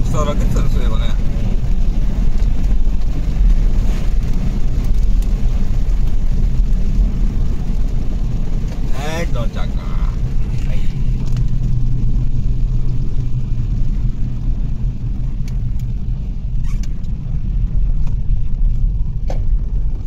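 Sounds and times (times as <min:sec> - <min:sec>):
tyres and engine rumbling: 0:00.0 - 0:20.0.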